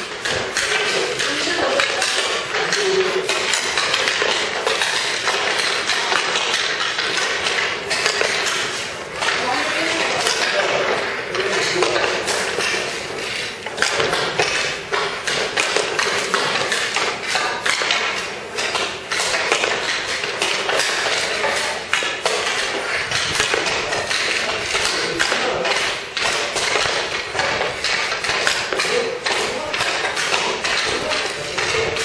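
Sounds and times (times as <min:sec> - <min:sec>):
hockey sticks and pucks clacking: 0:00.0 - 0:32.0.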